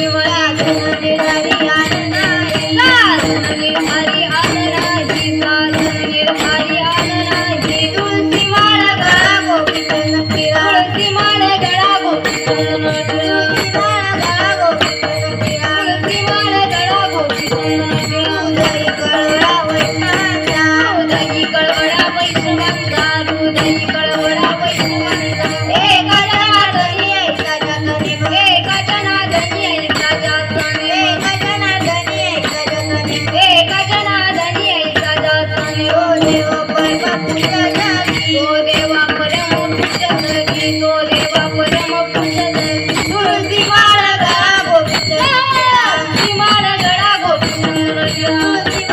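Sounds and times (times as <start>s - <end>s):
hand drum beat: 0.0s - 48.9s
jingling percussion: 0.0s - 48.9s
woman singing devotional song: 0.0s - 48.9s.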